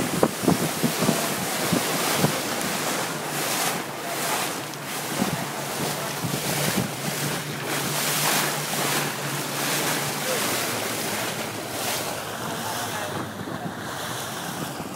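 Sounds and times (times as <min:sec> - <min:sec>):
low engine hum: 0:00.0 - 0:14.9
water splashing past boat hull: 0:00.0 - 0:14.9
wind buffeting microphone: 0:00.0 - 0:14.9.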